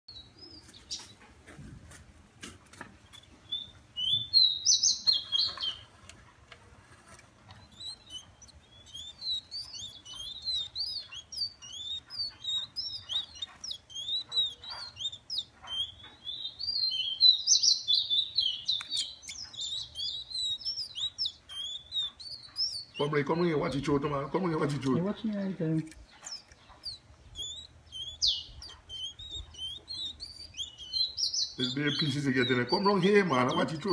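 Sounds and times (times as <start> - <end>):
songbird twittering: 3.0 - 5.9, 7.5 - 33.9.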